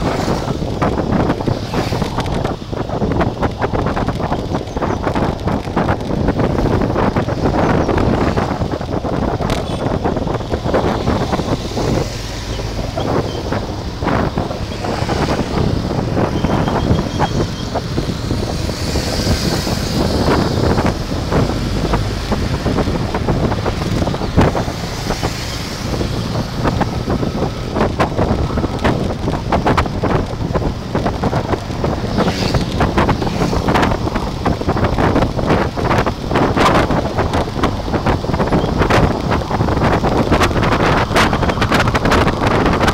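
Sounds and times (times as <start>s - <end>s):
road noise: 0.0s - 42.9s
wind buffeting microphone: 0.0s - 42.9s.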